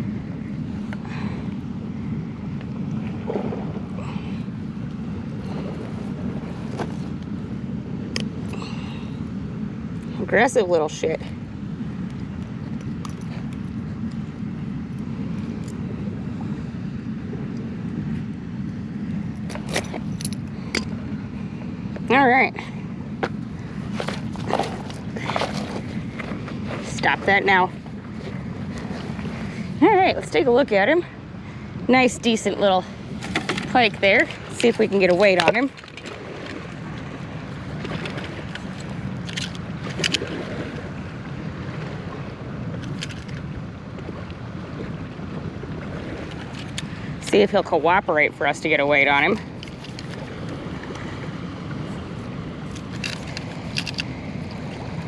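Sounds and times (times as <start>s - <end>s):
floodwater roaring through spillway: 0.0s - 55.0s.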